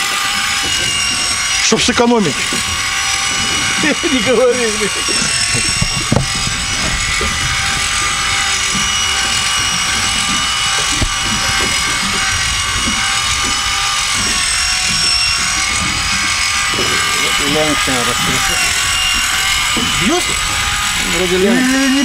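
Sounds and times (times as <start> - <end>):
electric drill whining: 0.0 - 22.0.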